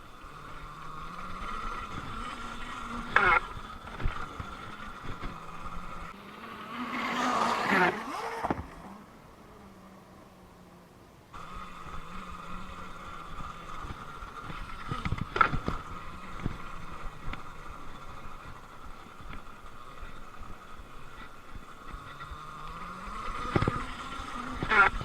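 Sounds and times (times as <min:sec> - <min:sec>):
electric motor whine: 0:00.0 - 0:25.0.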